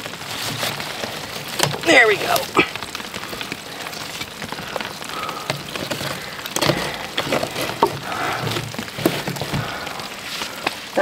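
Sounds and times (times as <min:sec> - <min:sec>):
plastic pipe being handled: 0:00.0 - 0:11.0
steady rain: 0:00.0 - 0:11.0.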